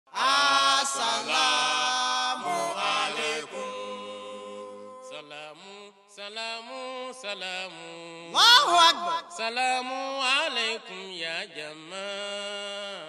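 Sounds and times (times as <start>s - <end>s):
unaccompanied vocal chant: 0.1s - 13.0s.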